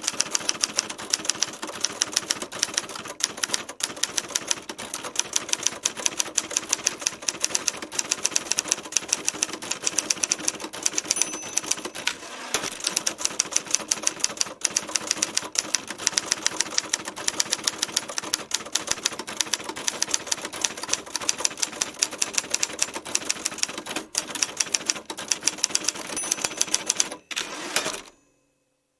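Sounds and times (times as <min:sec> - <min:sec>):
typewriter keys clattering: 0:00.0 - 0:28.1.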